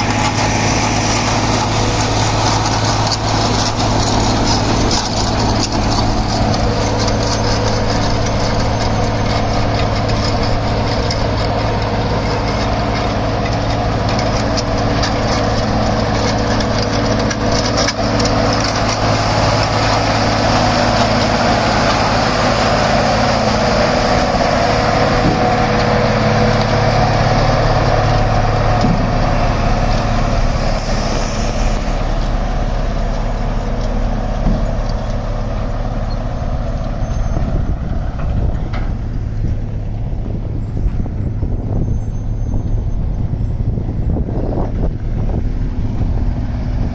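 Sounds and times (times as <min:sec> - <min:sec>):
heavy diesel machine engine running: 0:00.0 - 0:46.9.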